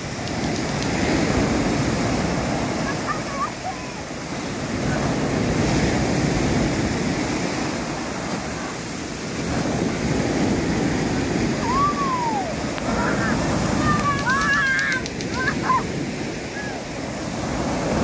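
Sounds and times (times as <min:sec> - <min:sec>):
ocean surf breaking on shore: 0:00.0 - 0:18.0.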